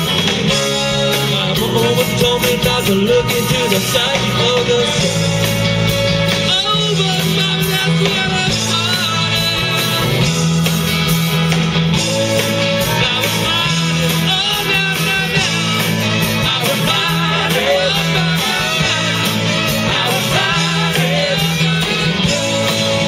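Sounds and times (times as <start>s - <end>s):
person singing lead vocals: 0.0s - 10.4s, 11.9s - 23.0s
live rock band playing: 0.0s - 23.0s.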